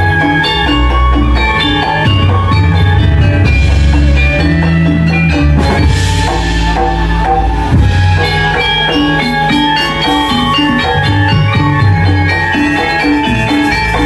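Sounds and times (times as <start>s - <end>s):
drums: 0.0s - 14.0s
metallophones ringing: 0.0s - 14.0s.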